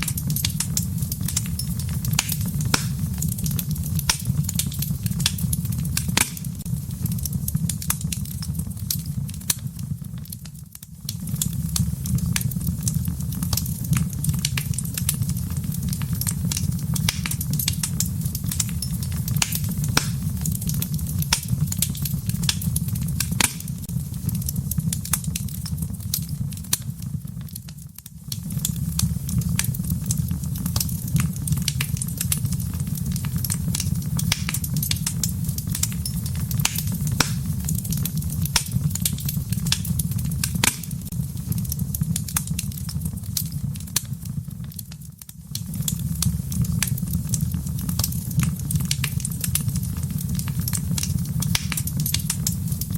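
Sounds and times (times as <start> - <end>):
fire crackling and popping: 0.0 - 52.9
low rumble of flames: 0.0 - 52.9.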